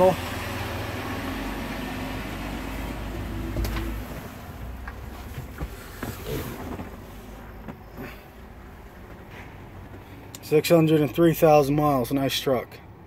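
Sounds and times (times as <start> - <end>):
diesel engine idling: 0.0 - 12.2.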